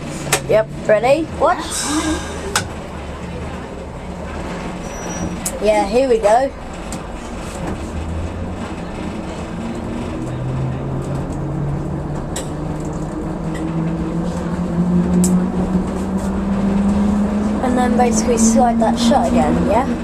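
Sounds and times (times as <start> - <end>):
train diesel engine revving: 0.0 - 20.0.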